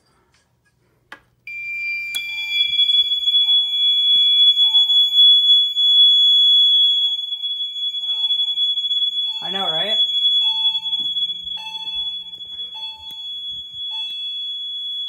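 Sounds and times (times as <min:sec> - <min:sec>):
louder higher alarm tone: 0:01.5 - 0:15.0
steady high-pitched alarm tone: 0:01.5 - 0:15.0.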